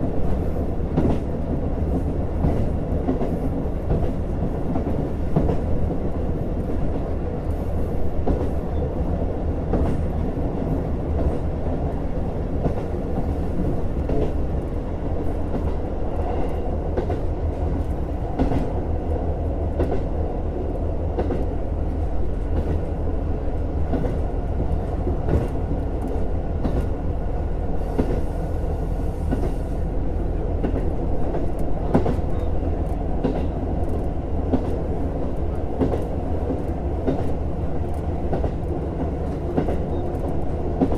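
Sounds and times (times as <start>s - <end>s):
diesel railcar engine drone: 0.0s - 40.9s.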